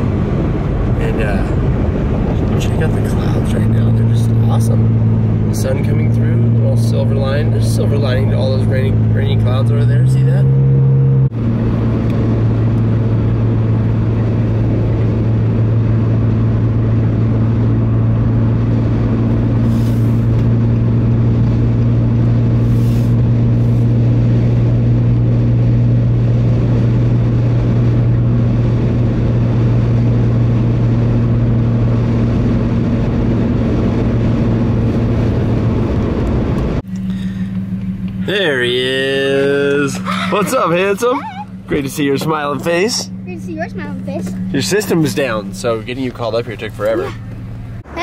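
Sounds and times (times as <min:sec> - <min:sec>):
car engine hum: 0:00.0 - 0:48.0
road and tyre noise: 0:00.0 - 0:48.0.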